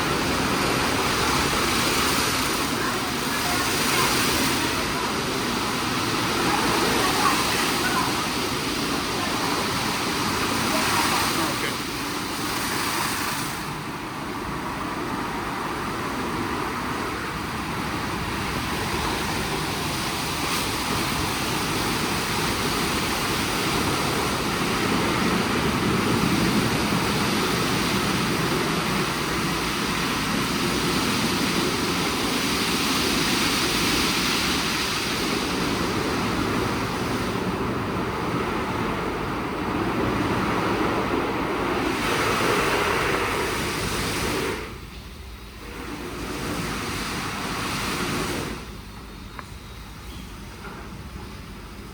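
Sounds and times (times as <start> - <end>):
car wash machinery rushing: 0.0 - 51.9.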